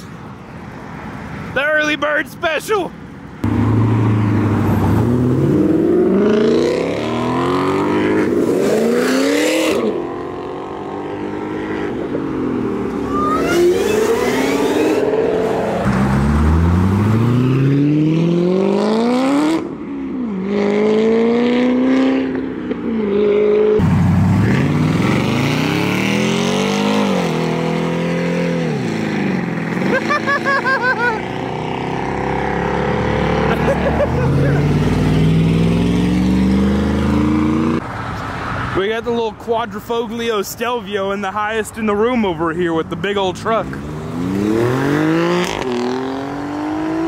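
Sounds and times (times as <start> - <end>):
cars accelerating hard: 3.4 - 37.9, 43.6 - 47.0.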